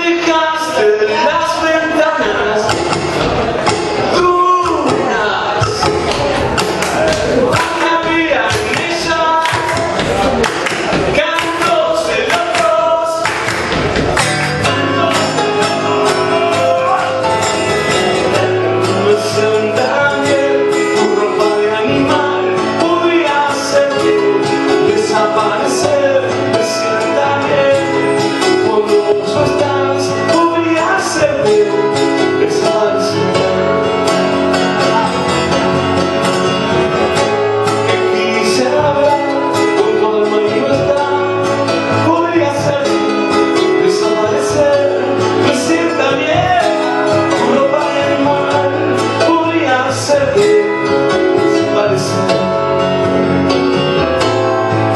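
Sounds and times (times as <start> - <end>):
man singing: 0.0 - 54.7
held keyboard chords: 0.0 - 54.9
strummed acoustic guitar: 0.0 - 54.9.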